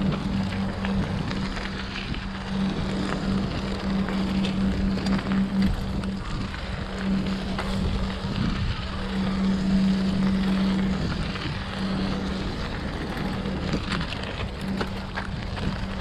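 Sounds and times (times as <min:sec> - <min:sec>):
bicycle tyre and road rumble: 0:00.0 - 0:16.0
steady low hum: 0:00.0 - 0:16.0
wind buffeting microphone: 0:00.0 - 0:16.0.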